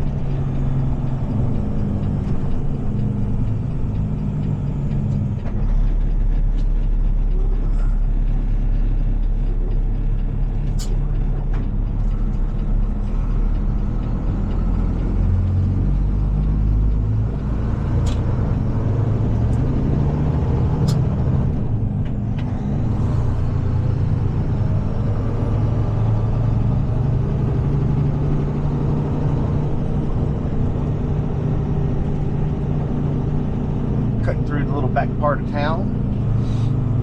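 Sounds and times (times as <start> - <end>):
truck engine running: 0.0 - 37.0.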